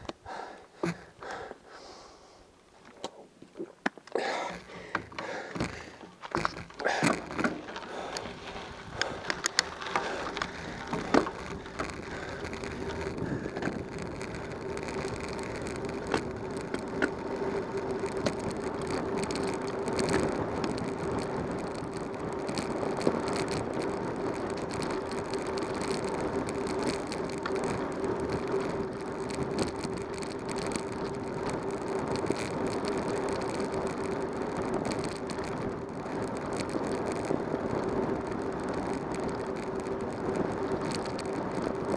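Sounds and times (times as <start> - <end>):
bicycle tyres on gravel: 0.0 - 41.9
tyre and wind noise: 0.0 - 41.9.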